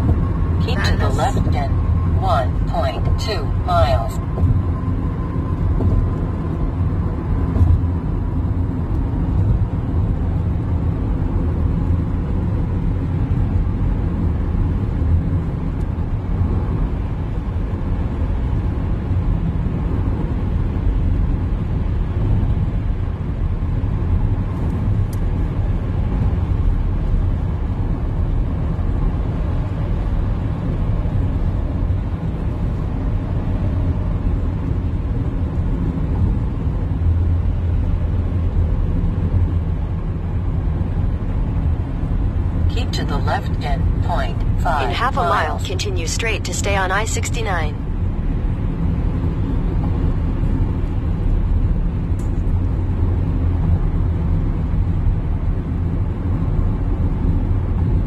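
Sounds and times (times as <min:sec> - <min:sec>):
car driving heard from inside: 0:00.0 - 0:58.0.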